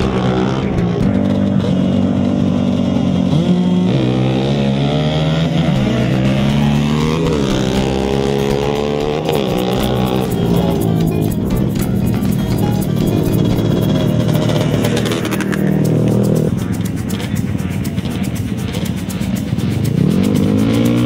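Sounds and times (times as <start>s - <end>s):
background music: 0.0s - 21.0s
quad engines revving hard: 0.0s - 21.0s.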